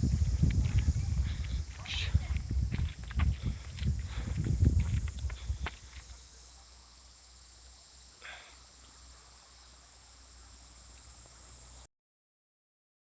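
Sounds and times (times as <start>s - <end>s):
insects chirring: 0.0s - 11.9s.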